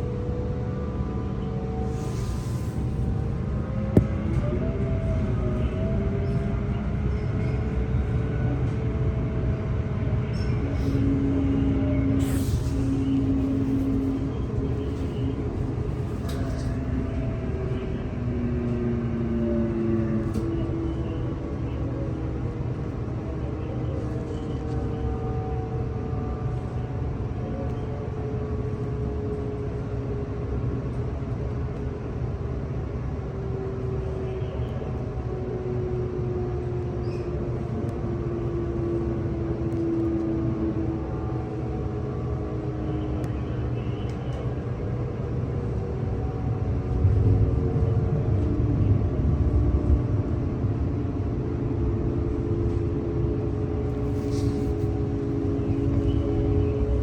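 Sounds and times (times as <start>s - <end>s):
train rumble from on board: 0.0s - 57.0s.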